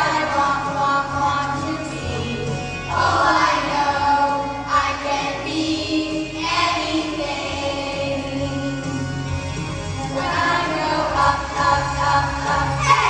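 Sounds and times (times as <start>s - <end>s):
children's choir singing: 0.0s - 9.0s, 10.0s - 13.0s.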